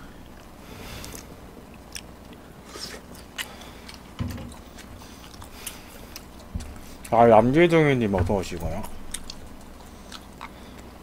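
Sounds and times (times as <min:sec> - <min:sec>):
man chewing food: 0:00.0 - 0:07.3, 0:08.7 - 0:11.0.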